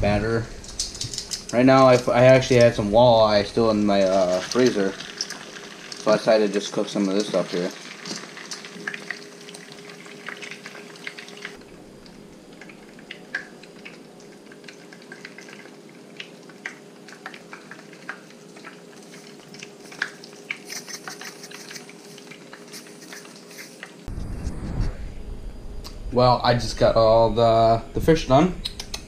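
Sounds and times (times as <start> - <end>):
faint steady hum: 0.0 - 29.0
oil sizzling in a frying pan: 0.5 - 24.1.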